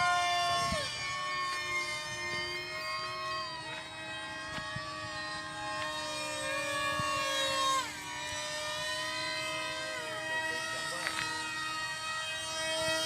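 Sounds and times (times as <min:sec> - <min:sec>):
model aircraft motors whining: 0:00.0 - 0:13.0.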